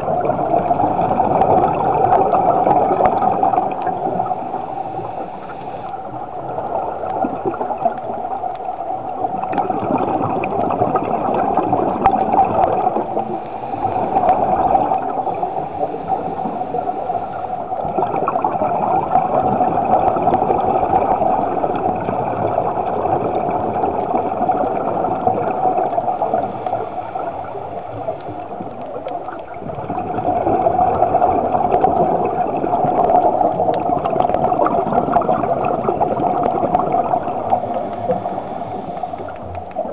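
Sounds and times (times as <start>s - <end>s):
underwater regulator bubbling: 0.0s - 39.9s.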